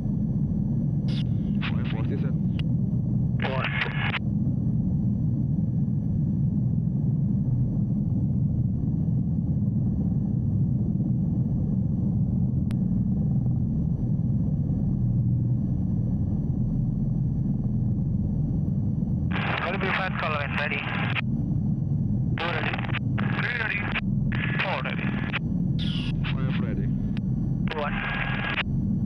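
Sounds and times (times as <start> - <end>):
helicopter engine and rotor: 0.0 - 29.0.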